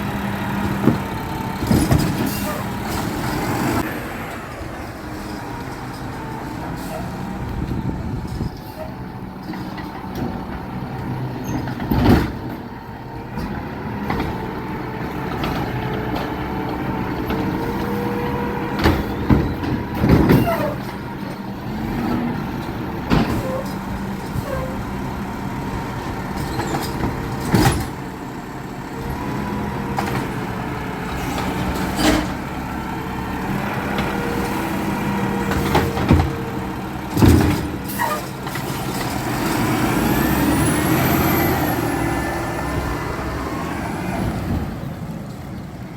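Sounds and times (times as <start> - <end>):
garbage truck engine running: 0.0 - 45.9.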